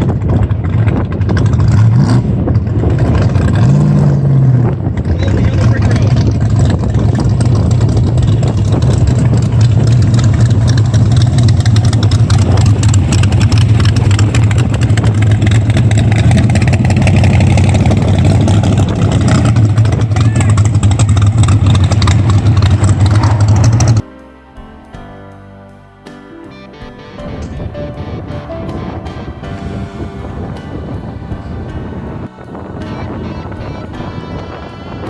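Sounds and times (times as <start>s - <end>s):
car engine running: 0.0s - 24.0s, 27.6s - 34.2s.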